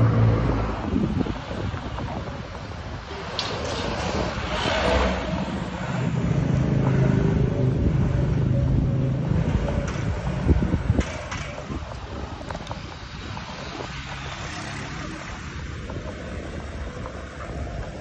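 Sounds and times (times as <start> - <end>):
road rumble: 0.0 - 18.0
vehicle engine humming: 0.0 - 18.0.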